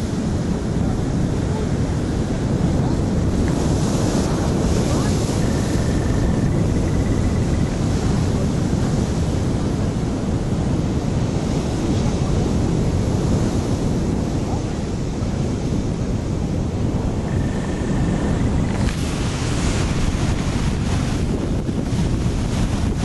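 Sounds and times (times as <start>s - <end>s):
surf breaking on rocks: 0.0s - 23.0s
wind buffeting microphone: 0.0s - 23.0s.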